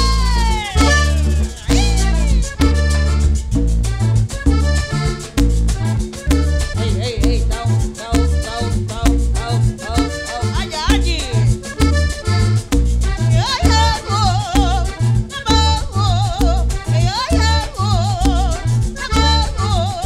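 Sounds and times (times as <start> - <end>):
quick percussion strokes: 0.0 - 19.9
accordion melody: 0.0 - 20.0
steady bass beat: 0.0 - 20.0.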